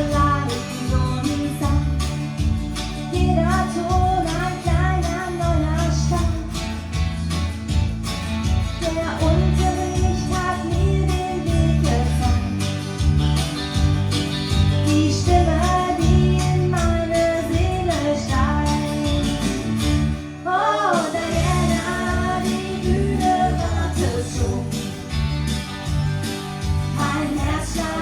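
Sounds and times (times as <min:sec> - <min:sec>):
country song with singing: 0:00.0 - 0:28.0.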